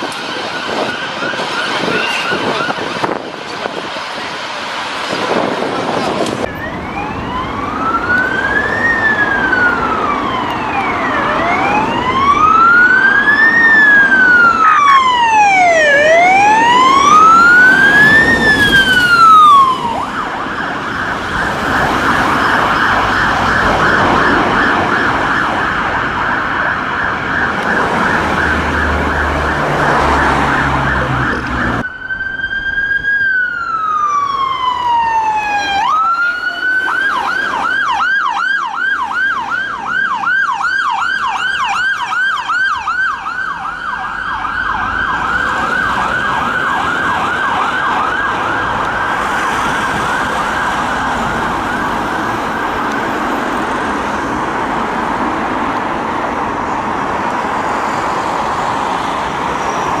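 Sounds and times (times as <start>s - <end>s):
ambulance siren wailing and yelping: 0.0s - 4.5s, 5.2s - 60.0s.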